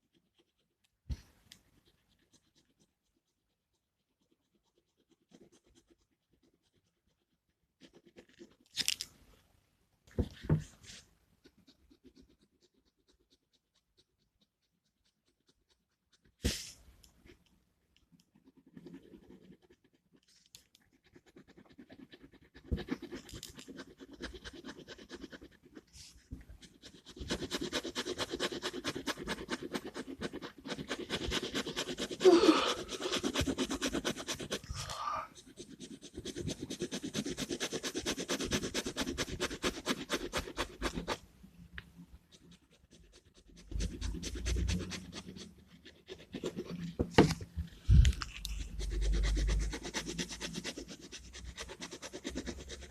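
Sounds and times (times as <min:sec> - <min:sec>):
gel pen scratching on paper: 0:00.0 - 0:09.0, 0:10.1 - 0:52.9.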